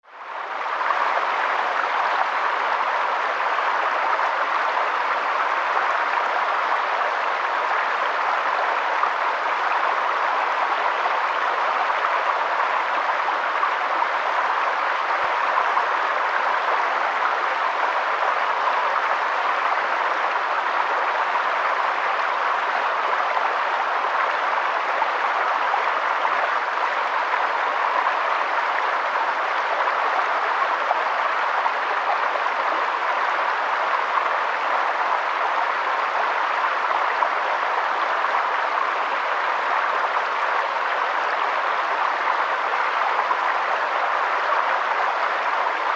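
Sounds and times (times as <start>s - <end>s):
river flowing over stones: 0.1s - 45.9s.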